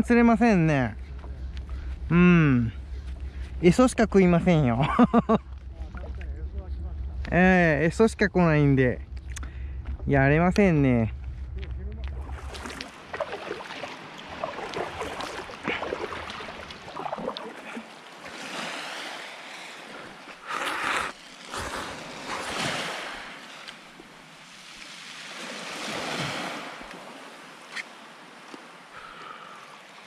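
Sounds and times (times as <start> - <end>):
sea water splashing and lapping: 0.0 - 7.5, 11.2 - 30.0.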